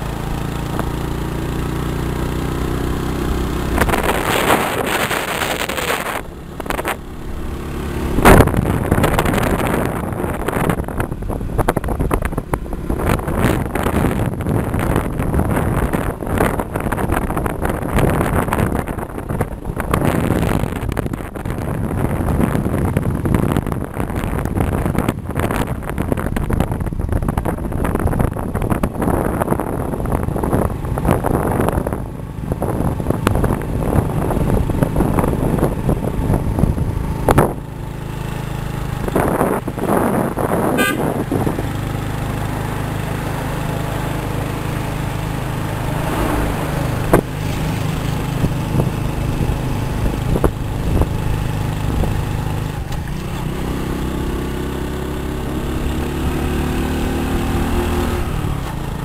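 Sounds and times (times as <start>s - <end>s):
vehicle engine running: 0.0s - 59.0s
wind buffeting microphone: 0.0s - 59.0s.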